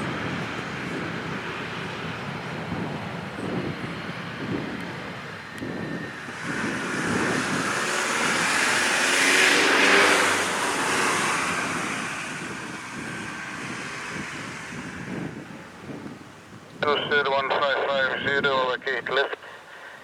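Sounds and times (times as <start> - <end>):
jet airliner passing: 0.0 - 20.0.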